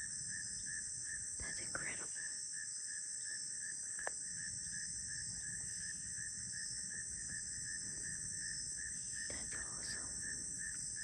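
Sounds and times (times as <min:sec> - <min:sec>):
pulsing insect chirr: 0:00.0 - 0:11.0.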